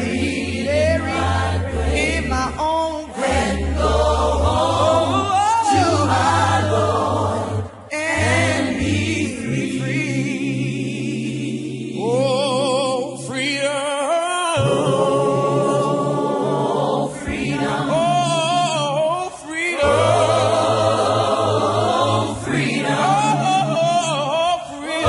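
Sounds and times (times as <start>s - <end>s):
a cappella choir singing: 0.0s - 25.0s.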